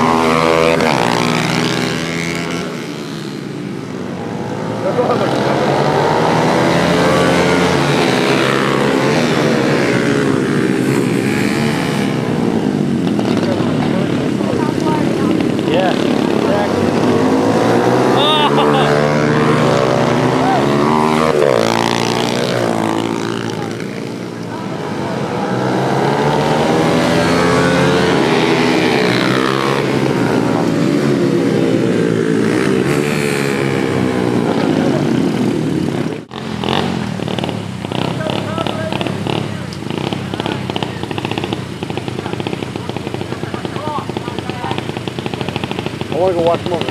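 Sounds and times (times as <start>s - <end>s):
mini motorcycles racing past: 0.0s - 46.9s
pit bike engines revving: 0.0s - 46.9s.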